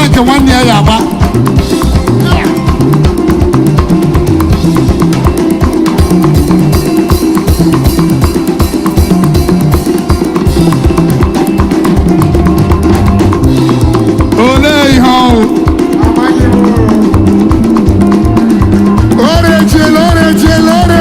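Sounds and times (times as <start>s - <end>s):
bass line: 0.0s - 21.0s
drum kit beat: 0.0s - 21.0s
loud live band music: 0.0s - 21.0s.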